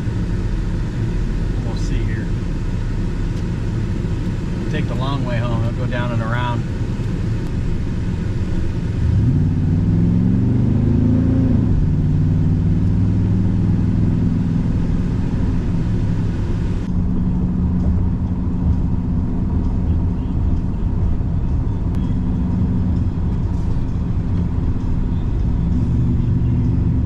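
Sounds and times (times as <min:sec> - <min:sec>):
road noise: 0:00.0 - 0:27.0
truck engine accelerating: 0:00.0 - 0:27.0.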